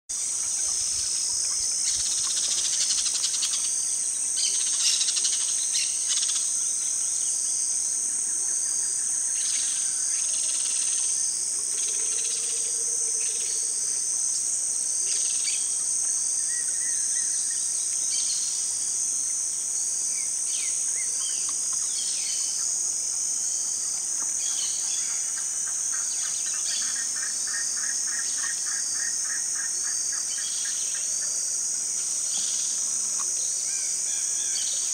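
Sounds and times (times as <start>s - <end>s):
high-pitched insect chorus: 0.1s - 34.9s.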